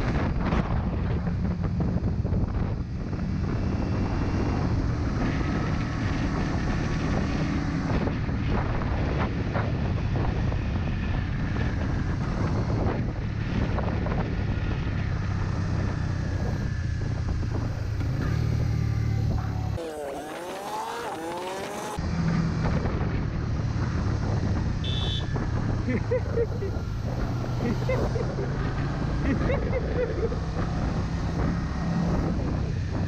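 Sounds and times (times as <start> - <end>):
wind noise on microphone: 0.0 - 19.8, 22.0 - 33.0
motorcycle engine running: 0.0 - 33.0.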